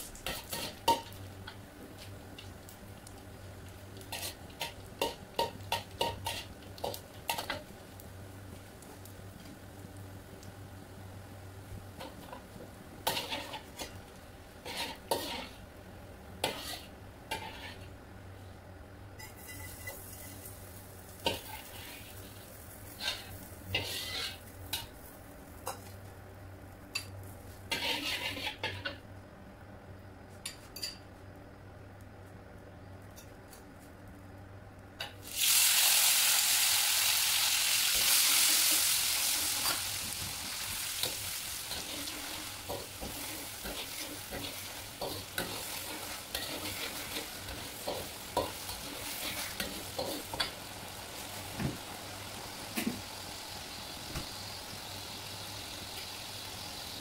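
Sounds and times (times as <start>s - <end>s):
chili sizzling in hot oil: 0.0s - 29.0s, 34.9s - 57.0s.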